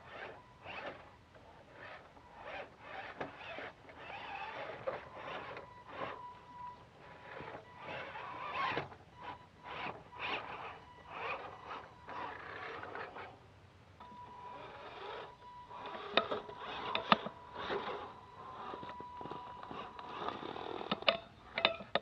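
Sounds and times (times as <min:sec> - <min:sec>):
electric motor whine: 0:00.0 - 0:13.4, 0:14.0 - 0:21.6.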